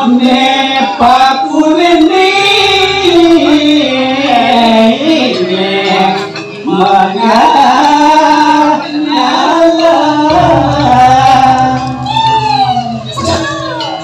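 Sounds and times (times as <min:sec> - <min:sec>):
gamelan orchestra: 0:02.2 - 0:14.0.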